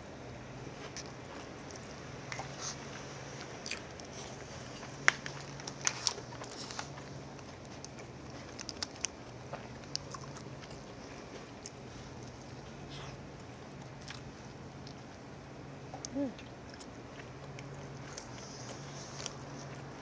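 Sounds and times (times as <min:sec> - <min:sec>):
steady low hum: 0:00.0 - 0:20.0
chewing: 0:00.8 - 0:15.2, 0:15.9 - 0:20.0.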